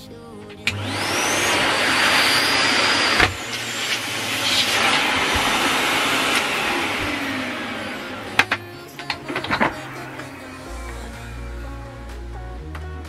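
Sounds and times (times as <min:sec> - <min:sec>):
vacuum cleaner motor running: 0:00.6 - 0:11.8.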